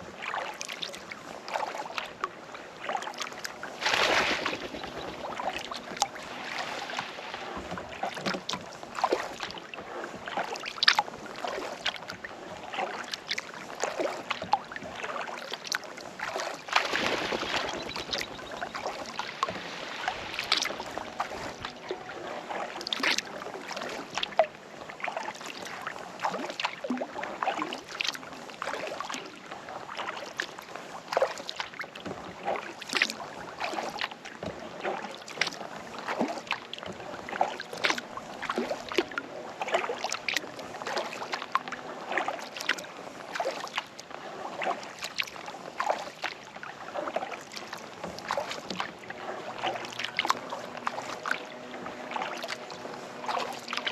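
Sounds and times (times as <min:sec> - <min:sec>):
kayak paddle through water: 0:00.0 - 0:53.9
splashes and drips: 0:00.2 - 0:53.9.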